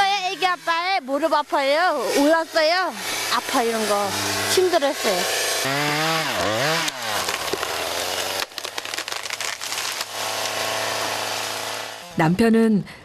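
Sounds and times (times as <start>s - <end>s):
chainsaw cutting logs: 0.0s - 12.4s.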